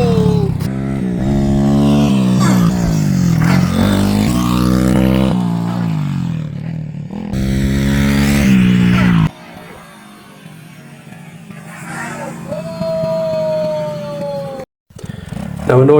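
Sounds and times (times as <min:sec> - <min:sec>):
pit bike engine revving: 0:00.0 - 0:13.4.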